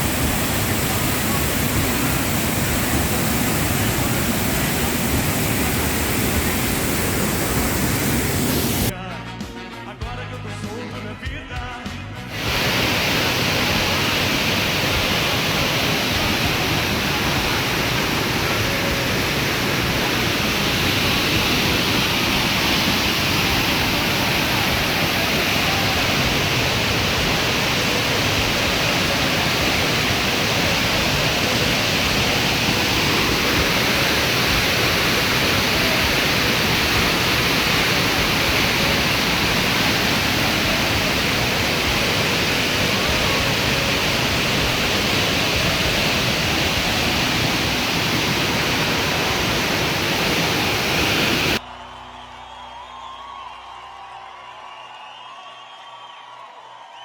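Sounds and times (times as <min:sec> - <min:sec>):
waterfall rushing: 0:00.0 - 0:08.9, 0:12.3 - 0:51.6.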